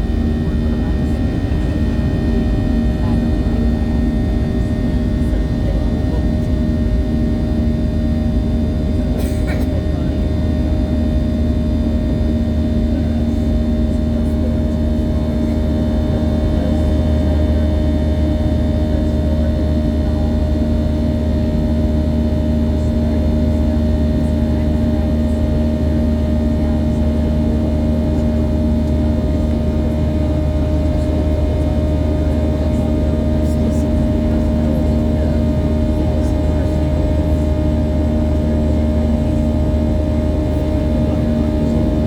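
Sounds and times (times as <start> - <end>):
aircraft engines droning: 0.0 - 42.0.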